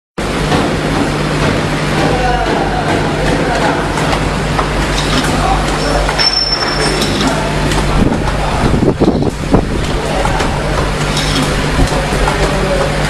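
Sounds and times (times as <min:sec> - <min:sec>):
machine hum and air hiss: 0:00.2 - 0:13.0.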